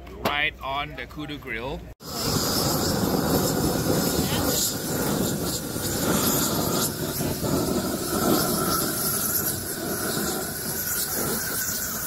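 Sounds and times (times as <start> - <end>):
propane torch hissing: 2.0 - 12.0.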